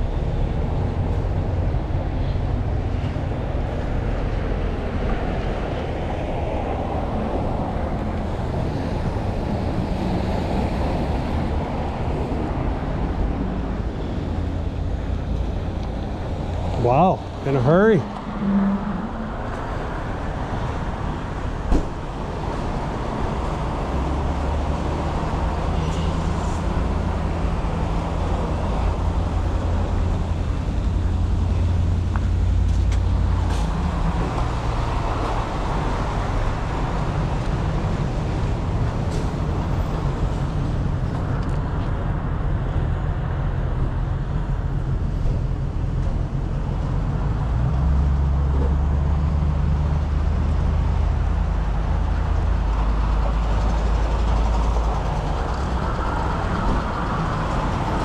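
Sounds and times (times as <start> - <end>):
road and tyre noise: 0.0 - 58.0.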